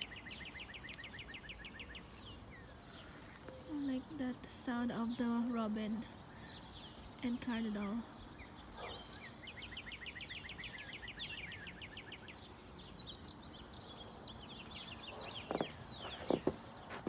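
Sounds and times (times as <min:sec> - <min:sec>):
birds singing whistled notes: 0:00.0 - 0:17.0.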